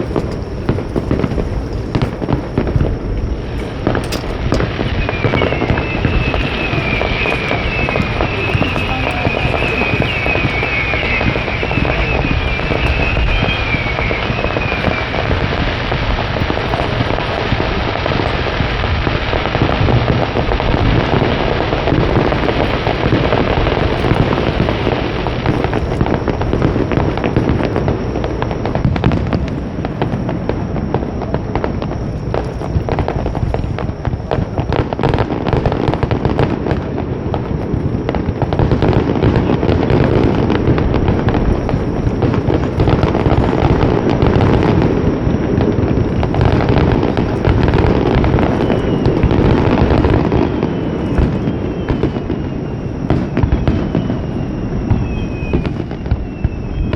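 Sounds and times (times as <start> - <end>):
crackle of small pops: 0.0 - 56.9
fireworks shells bursting: 0.0 - 56.9.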